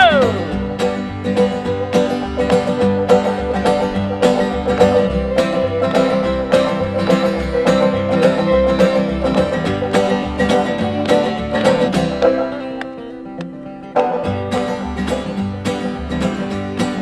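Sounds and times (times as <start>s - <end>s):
acoustic guitar: 0.0s - 17.0s
banjo picking: 0.0s - 17.0s
upright bass: 0.0s - 17.0s.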